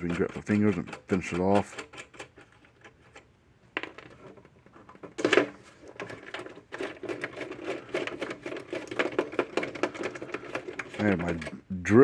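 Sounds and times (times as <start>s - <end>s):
small metallic clicks and rattles: 0.0s - 11.6s.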